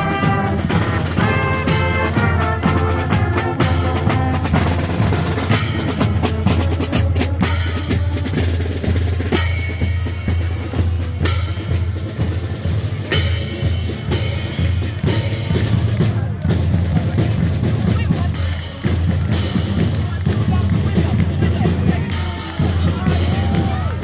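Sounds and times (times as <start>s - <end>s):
brass band phrase: 0.0s - 24.0s.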